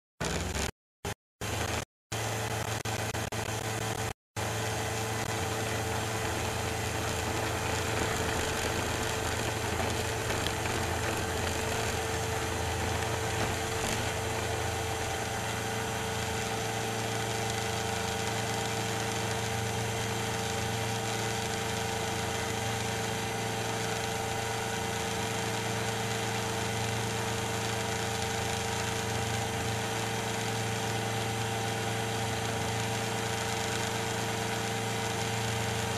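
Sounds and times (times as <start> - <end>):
ultralight aircraft engine running: 0.2 - 0.7, 1.4 - 35.9.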